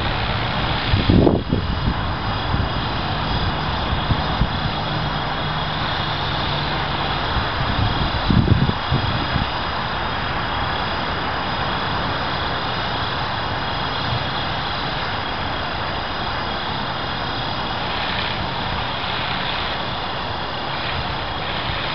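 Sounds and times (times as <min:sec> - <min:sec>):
rc helicopter rotors whirring: 0:00.0 - 0:21.9
wind rumbling on microphone: 0:00.0 - 0:21.9.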